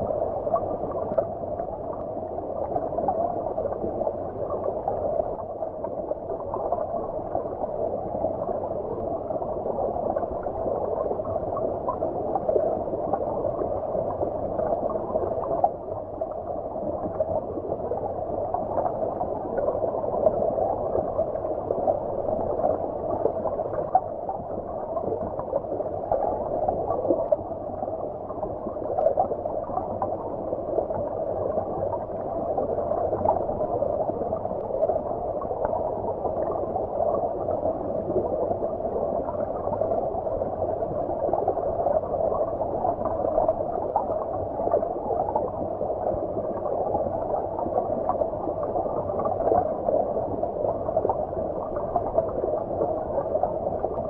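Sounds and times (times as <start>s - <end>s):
muffled underwater stream rush: 0.0s - 54.0s.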